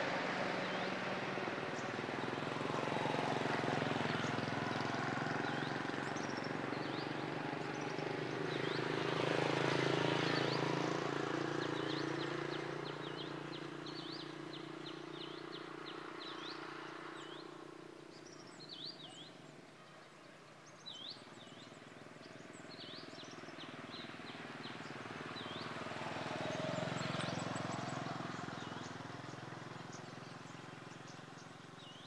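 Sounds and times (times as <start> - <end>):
motor scooter engine: 0.0 - 19.3, 21.4 - 32.0
birds chirping: 0.0 - 32.0
second scooter approaching: 0.0 - 32.0.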